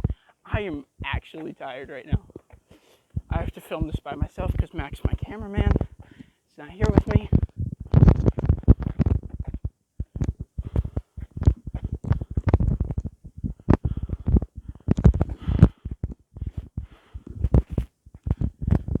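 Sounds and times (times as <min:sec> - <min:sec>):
microphone handling thumps: 0:00.0 - 0:19.0.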